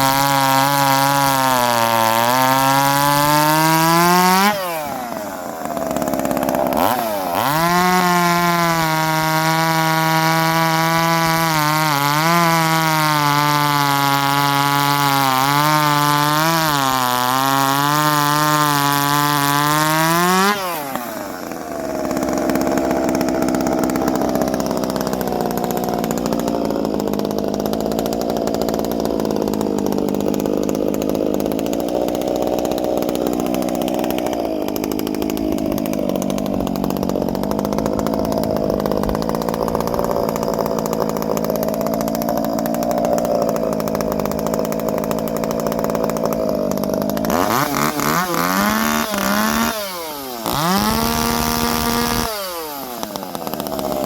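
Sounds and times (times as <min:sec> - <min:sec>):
chainsaw cutting a log: 0:00.0 - 0:54.0
rough noisy saw sound: 0:00.0 - 0:54.0.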